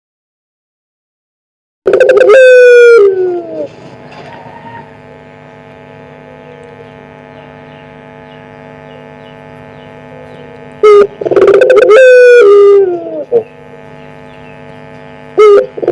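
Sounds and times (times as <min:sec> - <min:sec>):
dove cooing: 0:01.9 - 0:05.0, 0:06.1 - 0:15.9
electrical hum: 0:01.9 - 0:15.9.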